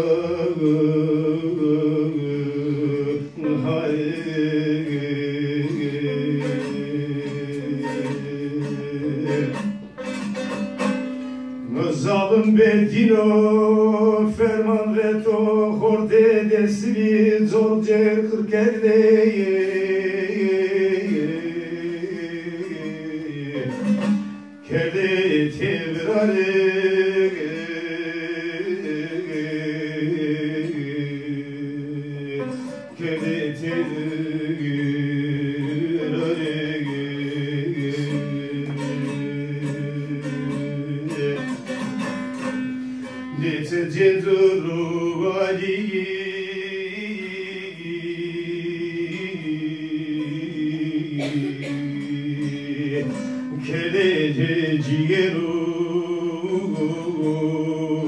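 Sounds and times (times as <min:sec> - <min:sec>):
long-necked lute plucking: 0:00.0 - 0:58.0
man singing a slow folk song: 0:00.0 - 0:58.0.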